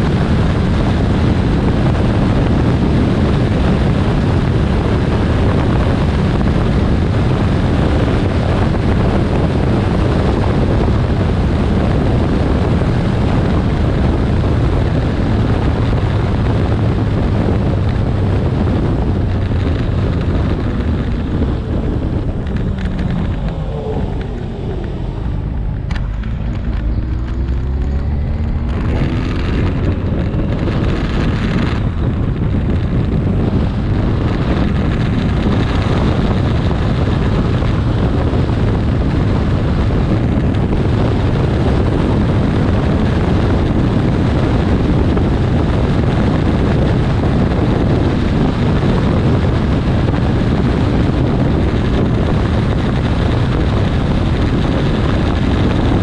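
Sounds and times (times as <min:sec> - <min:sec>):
motorcycle engine accelerating: 0:00.0 - 0:56.0
wind buffeting on microphone: 0:00.0 - 0:56.0.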